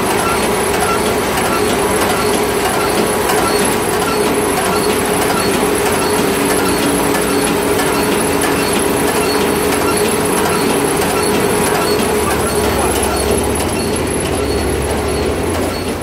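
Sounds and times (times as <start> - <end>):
baler machinery droning: 0.0 - 16.0.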